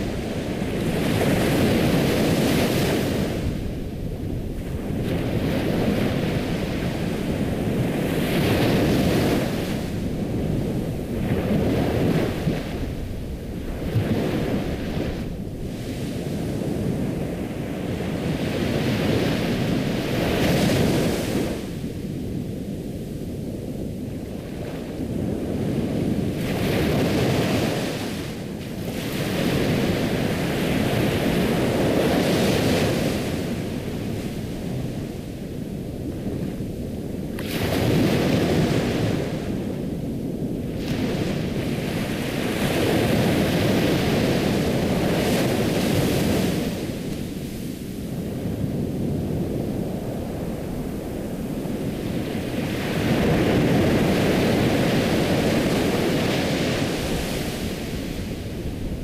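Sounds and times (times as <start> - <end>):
ocean waves breaking: 0.0 - 22.0, 24.2 - 59.0.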